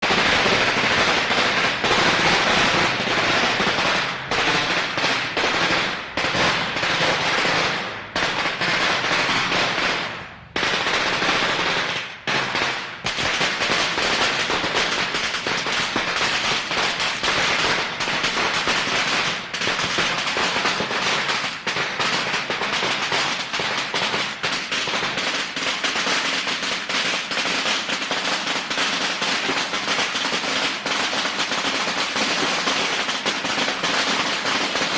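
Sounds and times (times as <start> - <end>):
firecrackers crackling: 0.0 - 34.9.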